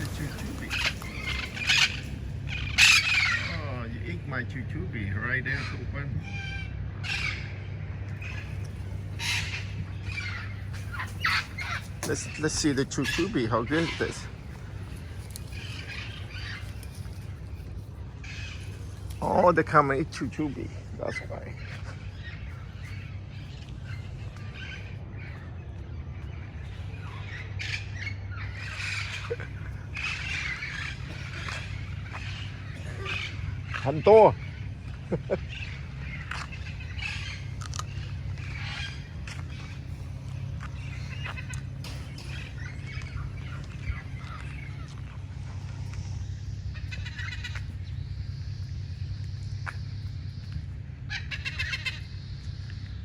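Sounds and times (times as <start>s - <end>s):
parrots squawking: 0.0s - 4.3s, 5.2s - 25.5s, 26.3s - 52.7s
steady low hum: 0.0s - 53.0s.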